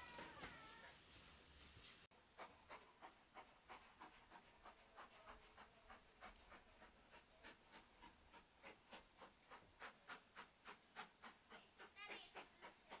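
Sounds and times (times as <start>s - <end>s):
steam locomotive exhaust beats: 0.0s - 13.0s.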